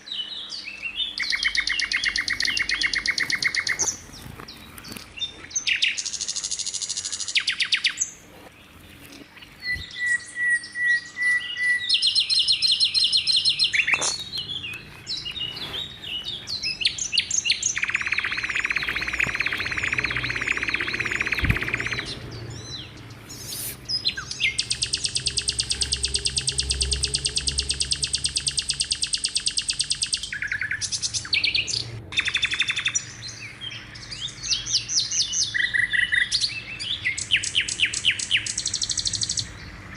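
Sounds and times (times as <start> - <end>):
lark singing: 0.0 - 4.1, 9.5 - 39.7
buzzy bird trills: 0.0 - 39.9.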